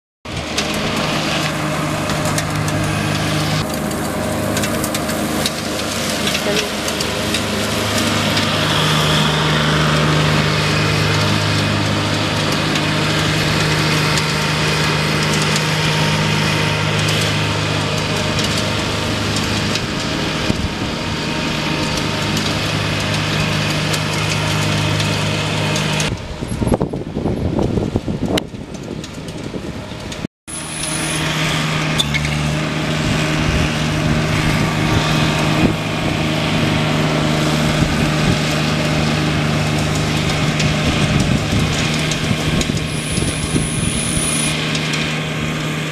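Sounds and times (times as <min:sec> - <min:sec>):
riding mower engine running: 0:00.2 - 0:45.9.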